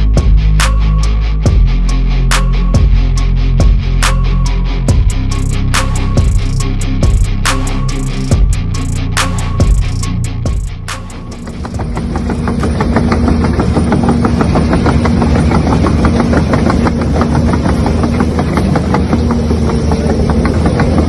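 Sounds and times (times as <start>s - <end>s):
engine idling with knocking: 0.0s - 21.0s.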